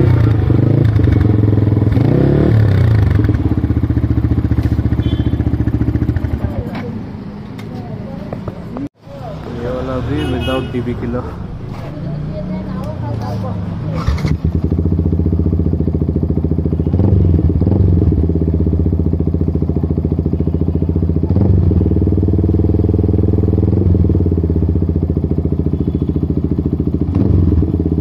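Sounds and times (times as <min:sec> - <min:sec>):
motorcycle engine idling: 0:00.0 - 0:07.2, 0:12.5 - 0:28.0.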